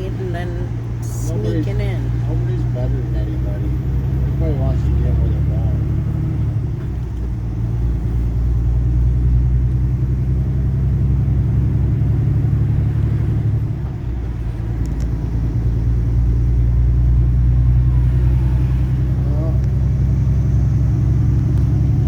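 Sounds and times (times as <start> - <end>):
truck engine and road drone: 0.0 - 22.0.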